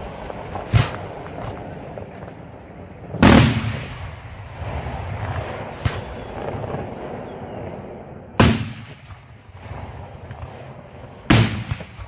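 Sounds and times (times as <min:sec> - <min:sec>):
firework shells exploding: 0:00.0 - 0:02.2, 0:03.1 - 0:12.0.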